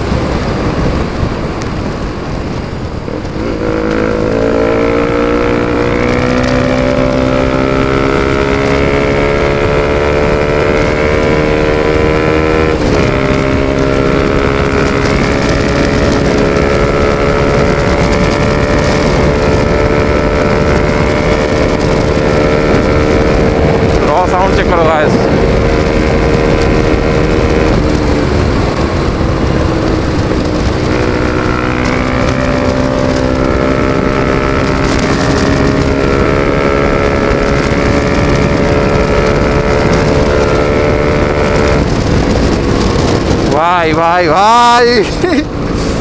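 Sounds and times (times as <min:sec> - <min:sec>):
motorcycle engine running loud: 0:00.0 - 0:46.0.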